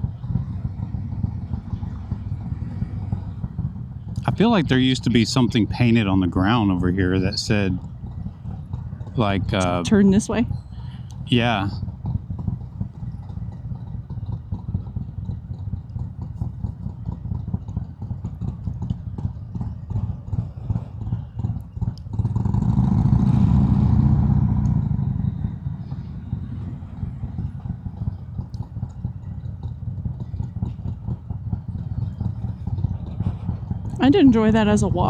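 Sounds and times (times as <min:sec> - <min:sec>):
motorcycle engine pulsing beat: 0:00.0 - 0:20.4, 0:24.7 - 0:35.0.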